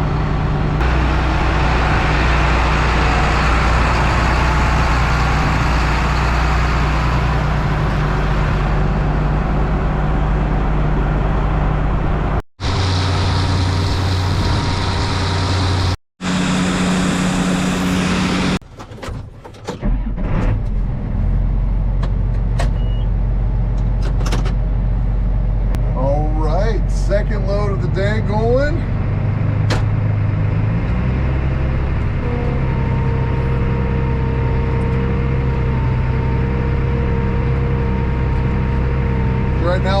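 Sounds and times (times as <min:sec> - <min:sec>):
diesel truck engine running: 0:00.0 - 0:18.7, 0:20.1 - 0:40.0.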